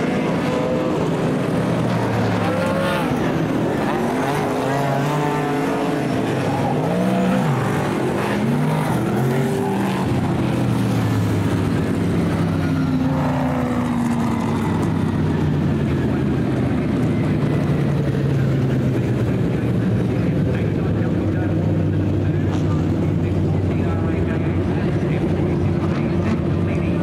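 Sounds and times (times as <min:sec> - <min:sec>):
race car engines: 0:00.0 - 0:27.0.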